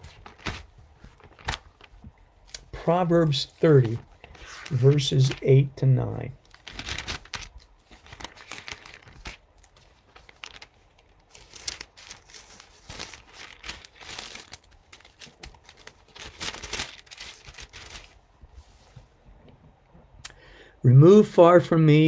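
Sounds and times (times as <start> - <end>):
paper pages rustling: 0.0 - 19.1.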